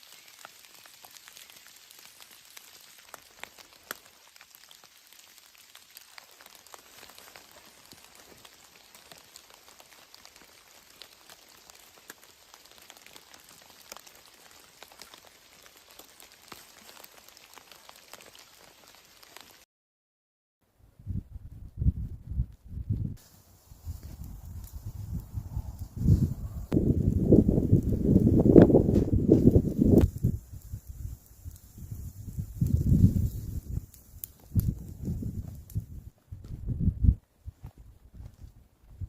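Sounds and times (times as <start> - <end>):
light rain pattering: 0.0 - 19.6, 23.2 - 36.0.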